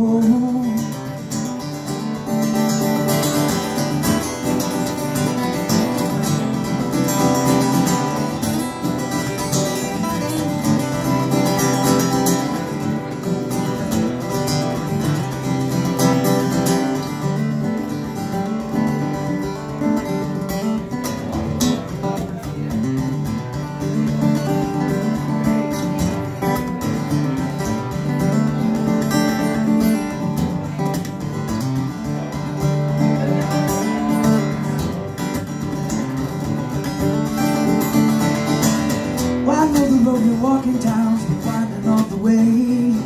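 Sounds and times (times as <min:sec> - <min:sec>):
acoustic guitars strumming: 0:00.0 - 0:43.0.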